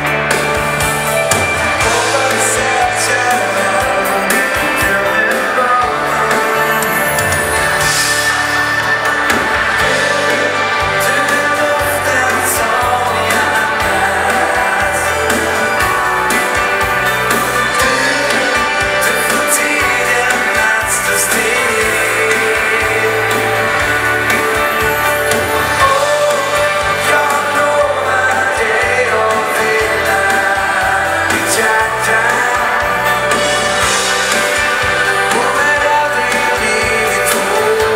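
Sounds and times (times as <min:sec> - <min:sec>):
live dance band over pa: 0:00.0 - 0:37.9
sung vocals: 0:00.0 - 0:37.9.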